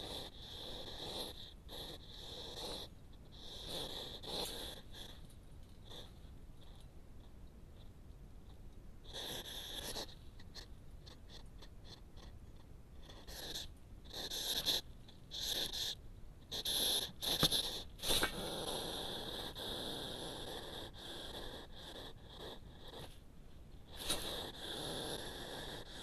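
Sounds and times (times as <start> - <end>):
hedgehog huffing and snorting: 0.0 - 6.8, 9.0 - 23.2, 23.8 - 26.0.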